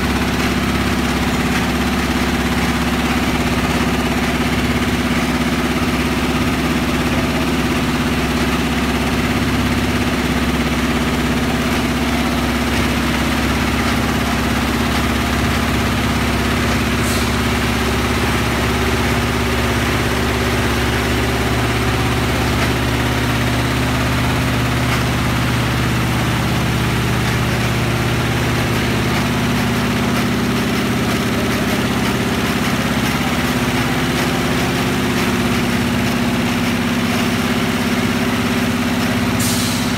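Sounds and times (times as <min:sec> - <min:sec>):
embroidery machine running: 0:00.0 - 0:39.9.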